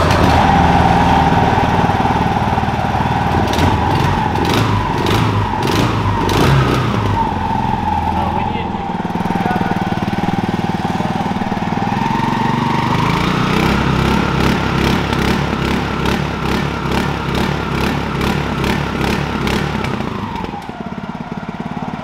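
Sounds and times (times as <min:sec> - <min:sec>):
mud motor running: 0:00.0 - 0:22.0.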